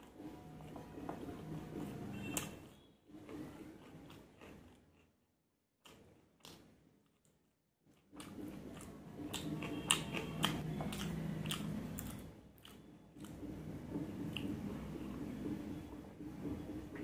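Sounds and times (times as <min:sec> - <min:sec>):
chewing with crunches: 0:00.0 - 0:15.2.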